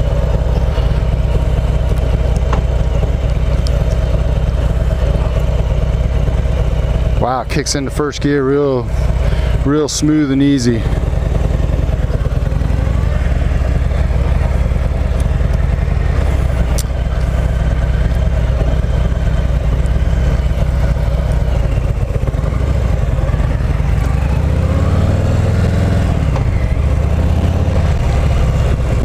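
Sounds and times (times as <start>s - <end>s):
motorcycle engine pulling away: 0.0s - 29.0s.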